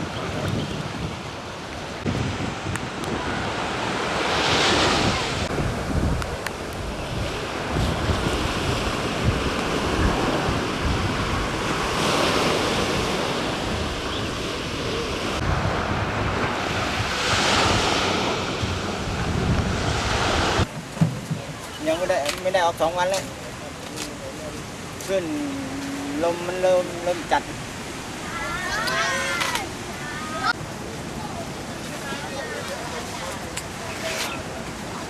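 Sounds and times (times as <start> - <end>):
sea surf breaking: 0.0 - 35.0
wind buffeting microphone: 0.0 - 35.0.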